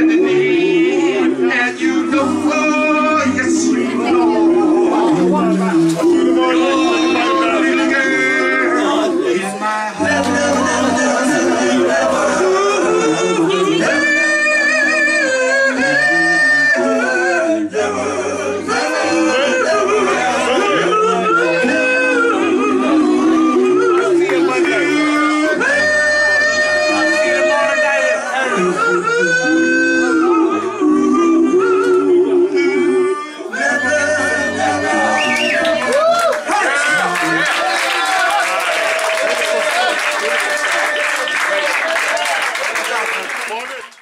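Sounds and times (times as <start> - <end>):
male vocal group singing harmony: 0.0 - 41.6.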